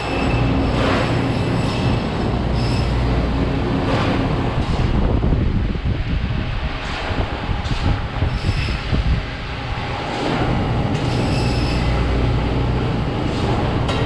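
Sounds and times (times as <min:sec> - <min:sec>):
loud mechanical noise with hum: 0:00.0 - 0:14.0.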